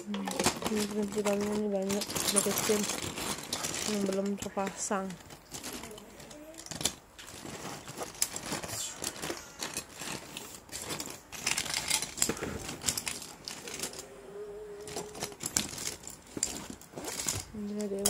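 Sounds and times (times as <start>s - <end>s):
plastic parts clicking and clattering: 0.0s - 14.1s, 14.8s - 18.0s.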